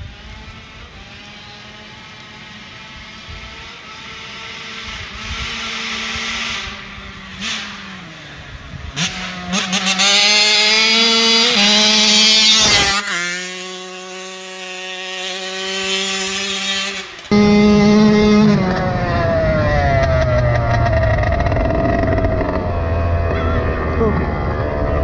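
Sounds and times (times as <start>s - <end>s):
loud close engine: 0.0s - 25.0s
two-stroke motorbike passing: 0.0s - 25.0s.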